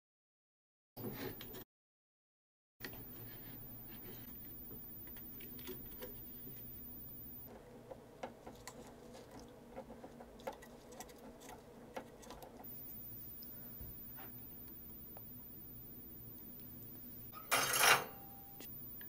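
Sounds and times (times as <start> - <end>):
low steady hum: 2.8 - 19.0.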